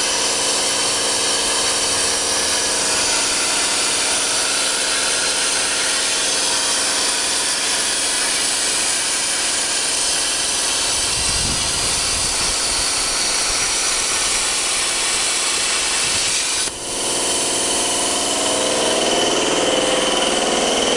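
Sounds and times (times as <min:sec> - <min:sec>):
high whine: 0:00.0 - 0:20.9
loud steady cutting hiss: 0:00.0 - 0:20.9
machine hum: 0:00.0 - 0:20.9.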